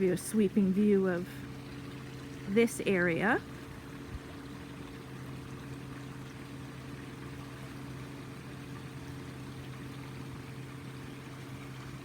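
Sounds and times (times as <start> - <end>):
low machine hum with hiss: 0.0 - 12.0.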